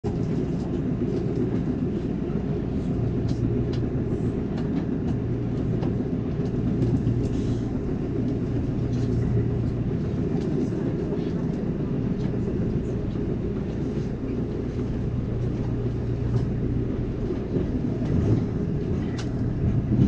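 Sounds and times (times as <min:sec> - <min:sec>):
train ride rumble: 0:00.0 - 0:20.0.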